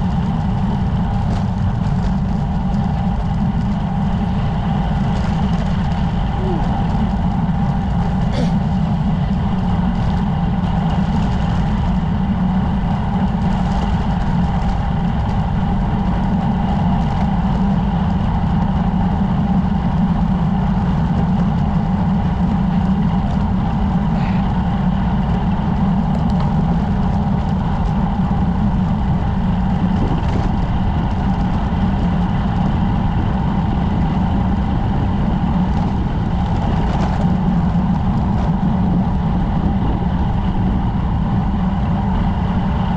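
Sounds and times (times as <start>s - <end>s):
bicycle road noise: 0.0s - 42.9s
wind noise: 0.0s - 42.9s.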